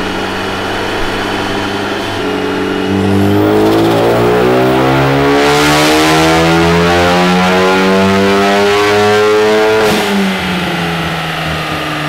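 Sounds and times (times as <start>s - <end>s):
car engine revving at full throttle: 0.0s - 12.0s.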